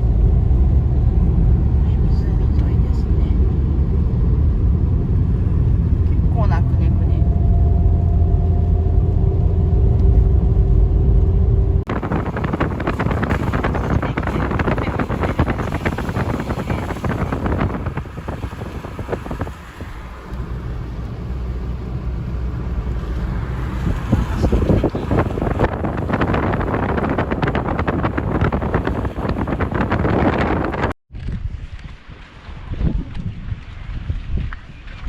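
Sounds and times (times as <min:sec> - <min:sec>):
road rumble inside car: 0:00.0 - 0:31.0
wind buffeting microphone: 0:00.0 - 0:35.0.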